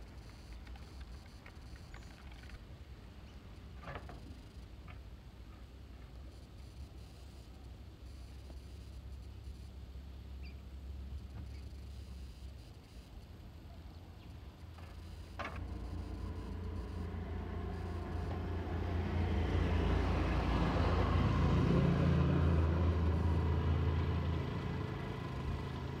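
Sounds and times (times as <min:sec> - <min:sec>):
engine rumble: 0:00.0 - 0:26.0.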